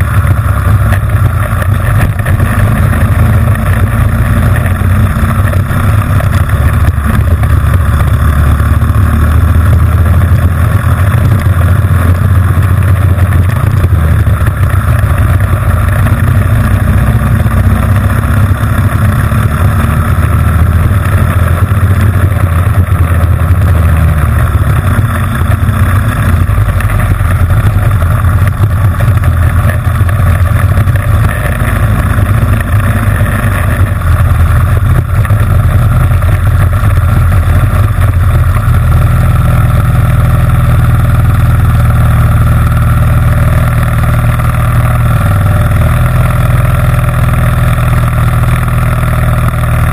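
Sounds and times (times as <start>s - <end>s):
engine running hard: 0.0s - 49.9s.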